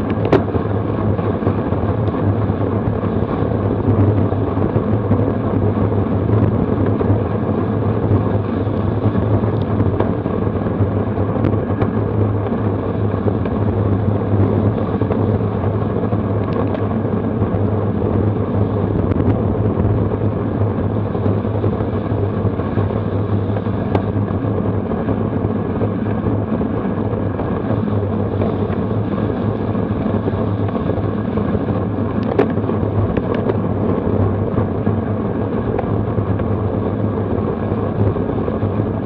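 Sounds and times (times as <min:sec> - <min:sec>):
wind rush on microphone: 0:00.0 - 0:39.0.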